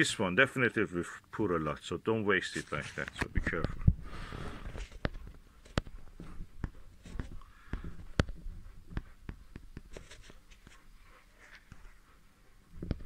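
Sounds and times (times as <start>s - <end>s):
soft rustling: 2.4s - 13.0s.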